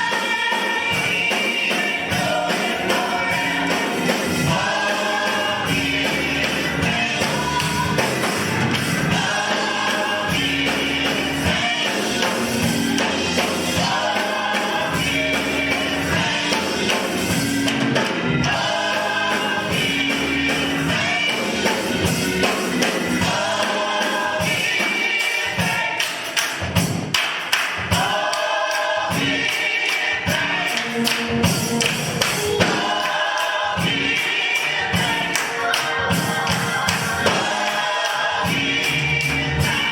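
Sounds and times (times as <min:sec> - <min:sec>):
band with steady beat: 0:00.0 - 0:39.9
choir singing: 0:00.0 - 0:39.9.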